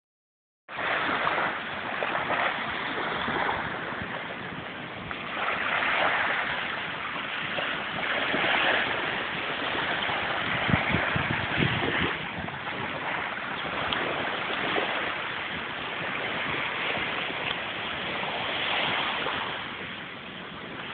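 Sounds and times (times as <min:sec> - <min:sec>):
small sea waves: 0:00.7 - 0:20.9
wind: 0:00.7 - 0:20.9.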